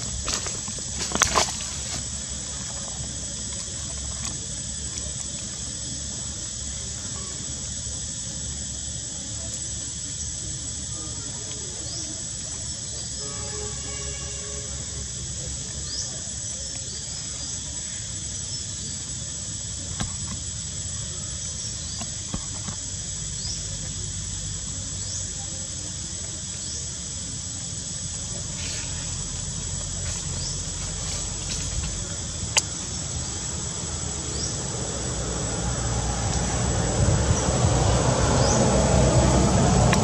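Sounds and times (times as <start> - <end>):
high-pitched insect drone: 0.0 - 40.0.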